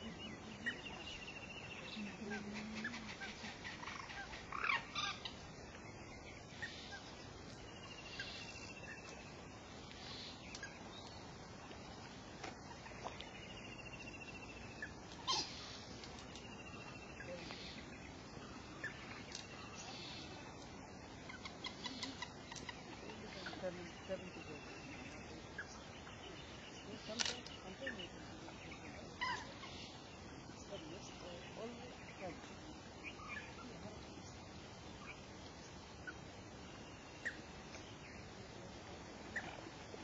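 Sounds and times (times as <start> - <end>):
outdoor background noise: 0.0 - 40.0.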